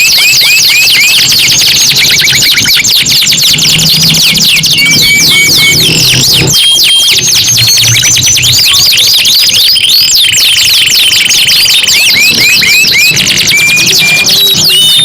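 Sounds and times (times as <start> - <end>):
canaries singing: 0.0 - 15.0
fast rolling trill: 0.0 - 15.0.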